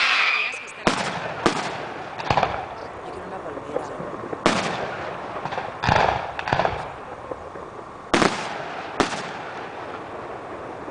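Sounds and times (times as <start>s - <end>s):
firework shells bursting: 0.0s - 3.2s, 3.8s - 10.6s
firework crackle: 0.0s - 10.9s.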